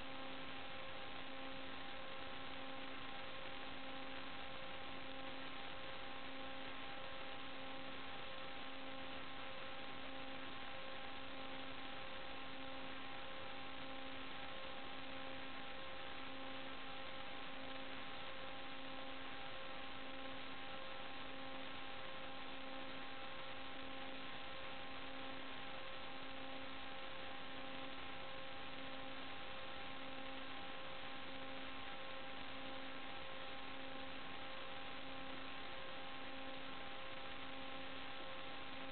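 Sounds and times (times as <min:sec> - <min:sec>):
electrical hum with hiss: 0:00.0 - 0:38.9.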